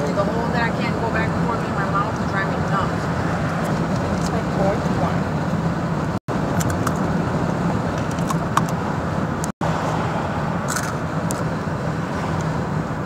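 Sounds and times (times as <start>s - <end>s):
van road and engine rumble: 0.0s - 13.0s.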